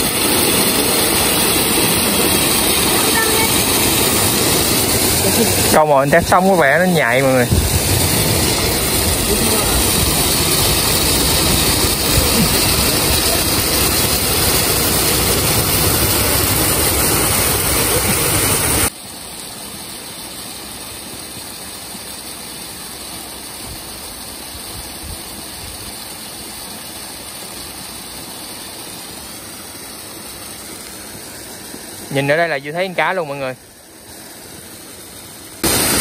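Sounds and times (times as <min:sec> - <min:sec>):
waterfall rushing: 0:00.0 - 0:24.7, 0:25.3 - 0:36.0.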